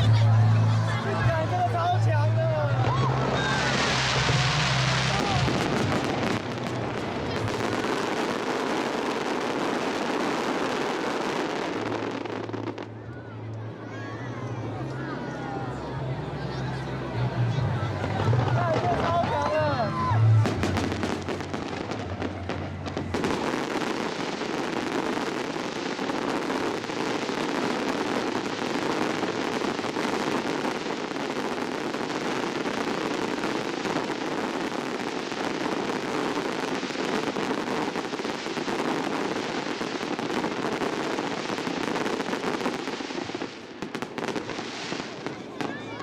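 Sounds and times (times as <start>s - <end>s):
fireworks crackling and popping: 0.0s - 13.8s, 17.0s - 46.0s.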